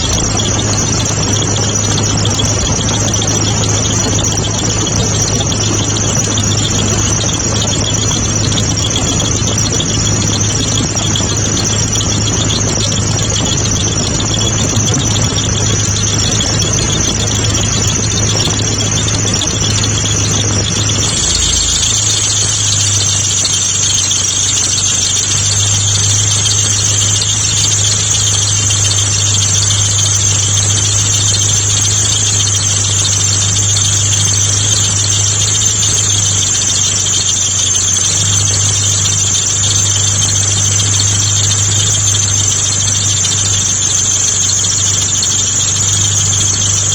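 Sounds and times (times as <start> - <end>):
car engine low hum: 0.0 - 46.9
compressor clutch high-pitched squeal: 0.0 - 46.9.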